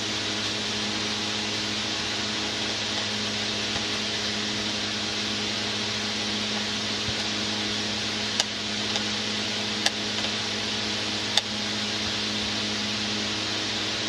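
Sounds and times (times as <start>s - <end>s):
steady hiss and low hum: 0.0s - 14.0s.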